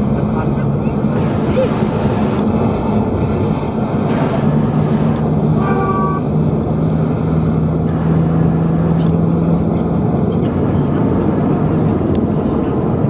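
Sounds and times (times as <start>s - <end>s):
car engine hum: 0.0s - 13.0s
road and wind noise: 0.0s - 13.0s.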